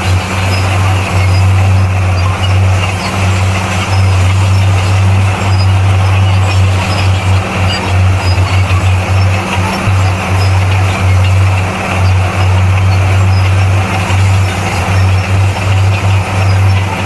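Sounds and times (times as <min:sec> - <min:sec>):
bulldozer diesel engine rumbling: 0:00.0 - 0:17.0.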